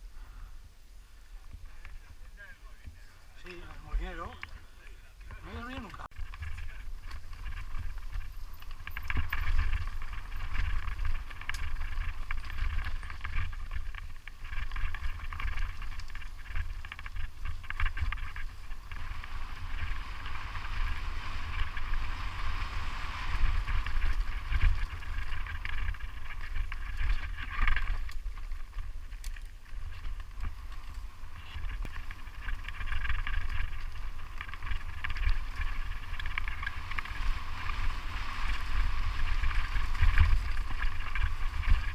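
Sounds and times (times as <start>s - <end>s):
mountain bike rolling and rattling: 1.4s - 41.9s
wind buffeting microphone: 1.4s - 41.9s.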